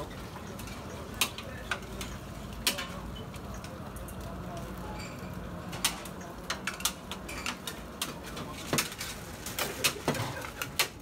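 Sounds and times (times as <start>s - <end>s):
metal utensils clacking on steel: 0.0s - 4.3s, 4.9s - 11.0s.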